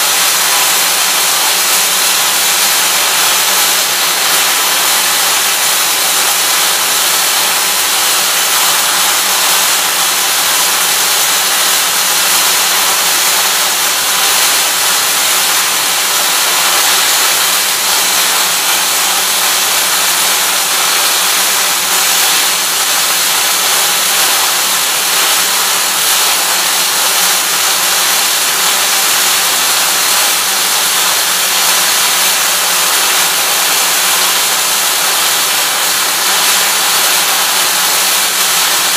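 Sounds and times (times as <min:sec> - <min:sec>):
welding arc hissing: 0:00.0 - 0:38.9
welding machine humming: 0:00.0 - 0:38.9.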